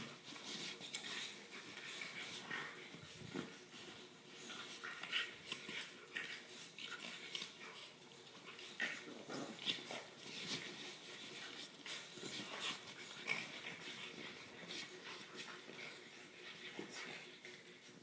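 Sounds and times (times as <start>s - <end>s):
puppies scuffling and snuffling: 0.0s - 18.0s.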